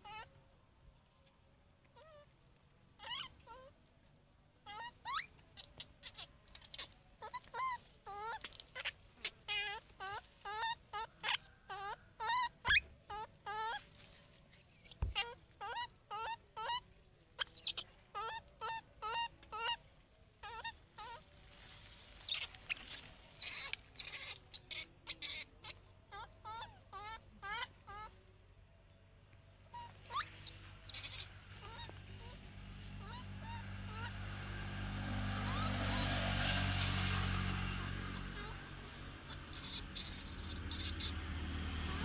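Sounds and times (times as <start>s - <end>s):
baby monkey calling: 0.0s - 0.3s, 3.0s - 3.8s, 4.6s - 21.5s, 22.1s - 28.5s, 29.4s - 34.8s, 35.4s - 42.0s.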